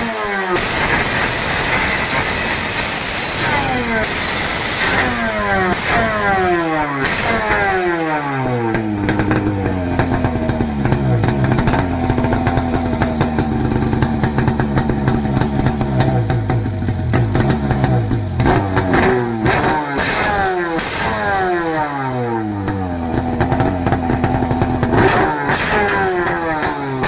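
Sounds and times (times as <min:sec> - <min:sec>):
jet ski engine idling and revving: 0:00.0 - 0:27.0.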